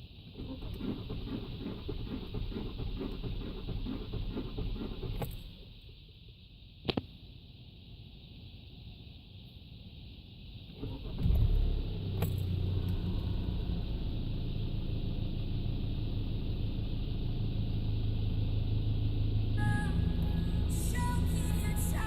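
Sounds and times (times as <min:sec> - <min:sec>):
car engine starting and idling: 0:00.0 - 0:06.5, 0:10.5 - 0:22.0.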